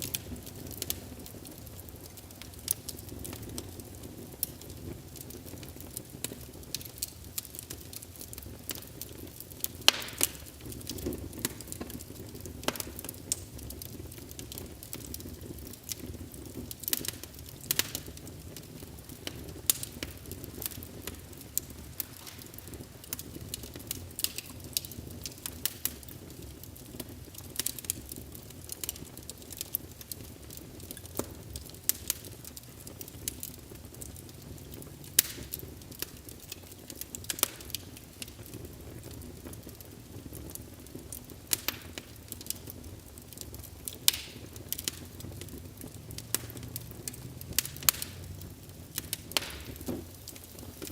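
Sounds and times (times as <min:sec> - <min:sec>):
fire crackling and popping: 0:00.0 - 0:50.9
flames rumbling: 0:00.0 - 0:50.9.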